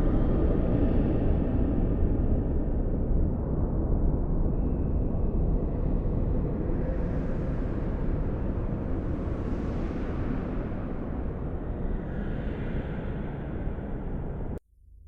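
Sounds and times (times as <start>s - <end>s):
blizzard wind blowing: 0.0s - 14.6s.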